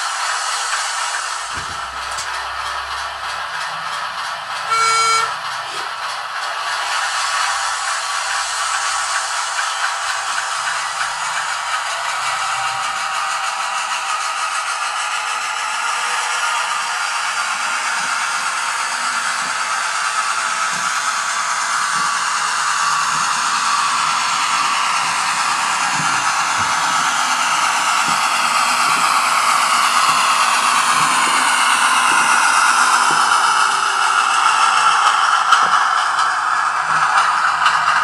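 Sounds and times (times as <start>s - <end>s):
model train whirring hiss: 0.0s - 38.0s
wheels clicking over rail joints: 0.6s - 38.0s.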